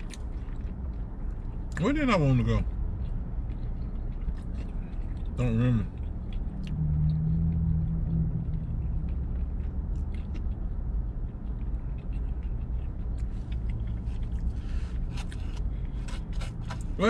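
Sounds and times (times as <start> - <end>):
low rumble inside truck cabin: 0.0 - 17.0
low hum: 2.4 - 17.0.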